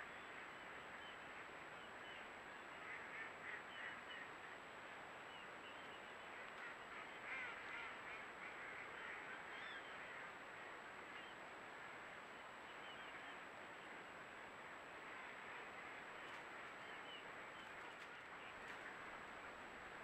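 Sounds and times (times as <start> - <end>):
flock of ducks quacking: 0.0 - 4.7, 5.7 - 12.0, 14.9 - 20.0.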